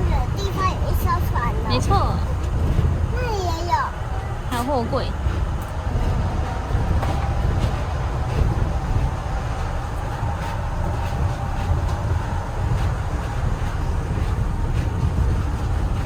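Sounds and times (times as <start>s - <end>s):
train rumbling inside carriage: 0.0s - 16.0s.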